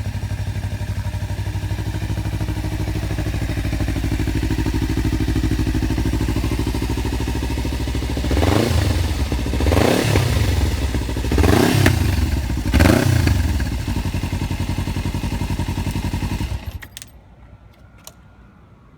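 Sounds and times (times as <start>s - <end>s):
motorcycle engine idling and revving: 0.0s - 17.1s.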